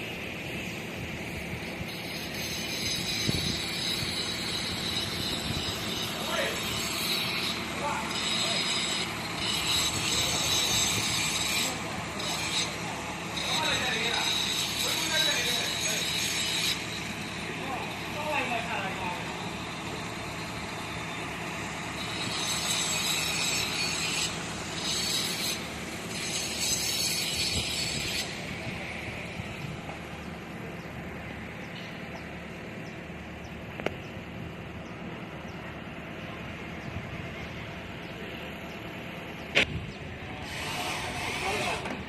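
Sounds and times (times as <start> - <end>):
machinery engine running: 0.0 - 42.0.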